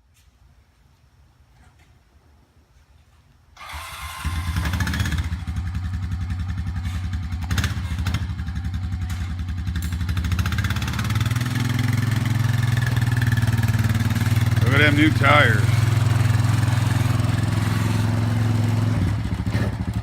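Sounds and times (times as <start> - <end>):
atv engine running: 3.6 - 20.0.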